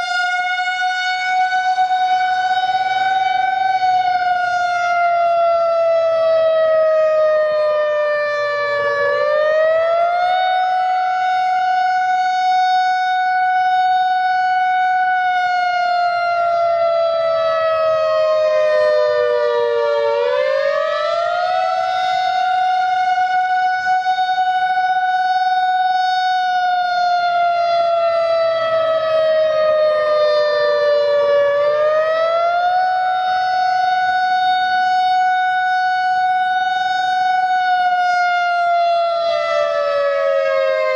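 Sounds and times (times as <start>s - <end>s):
wavering warning sirens: 0.0s - 40.9s.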